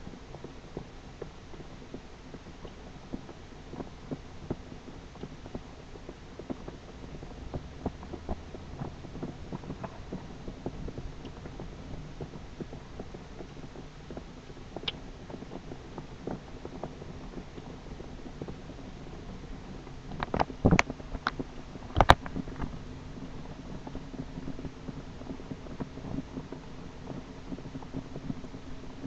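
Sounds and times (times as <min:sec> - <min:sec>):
distant thunder rumbling: 0:00.0 - 0:29.0.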